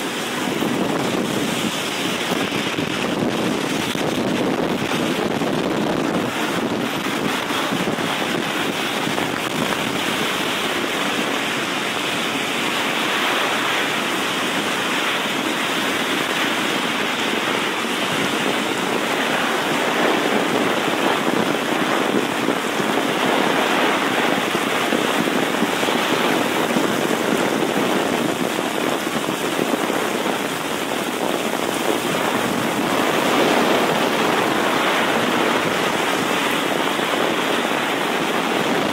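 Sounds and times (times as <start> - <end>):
heavy rain on street: 0.0 - 38.9.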